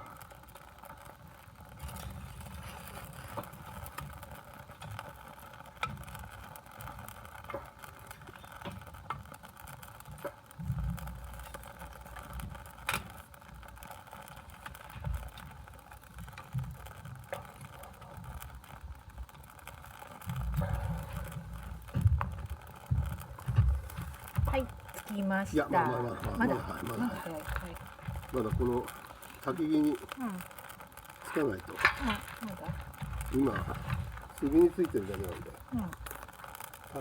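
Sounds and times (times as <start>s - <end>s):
small clicks and crackles: 0.0s - 37.0s.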